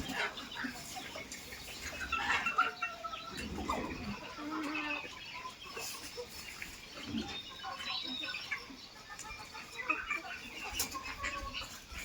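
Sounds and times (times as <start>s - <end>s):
chickens clucking and squawking: 0.0s - 12.0s.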